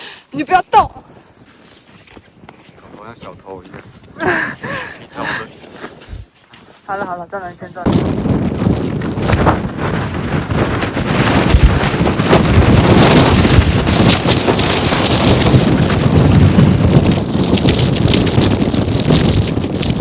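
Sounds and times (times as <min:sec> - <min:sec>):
wind buffeting microphone: 0:00.5 - 0:06.4, 0:07.3 - 0:20.0.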